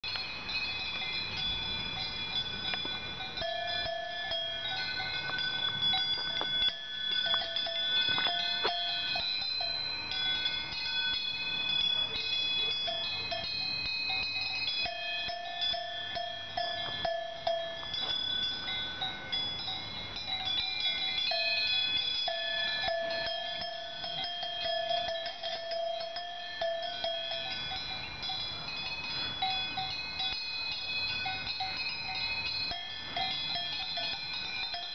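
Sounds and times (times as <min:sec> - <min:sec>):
cowbells ringing: 0:00.0 - 0:34.9.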